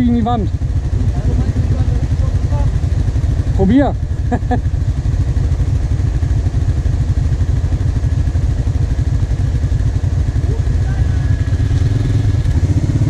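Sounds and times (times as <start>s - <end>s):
quad bike engines idling: 0.0s - 13.0s.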